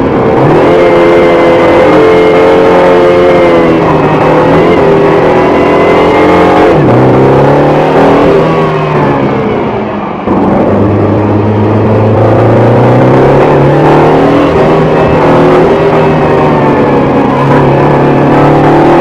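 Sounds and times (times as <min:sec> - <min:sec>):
car engine revving in cabin: 0:00.0 - 0:19.0.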